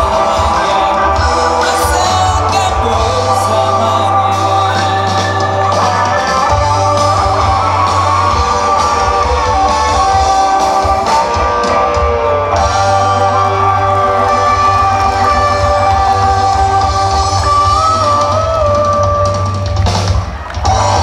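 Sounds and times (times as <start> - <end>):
bass guitar: 0.0 - 21.0
drums: 0.0 - 21.0
electric guitars playing: 0.0 - 21.0.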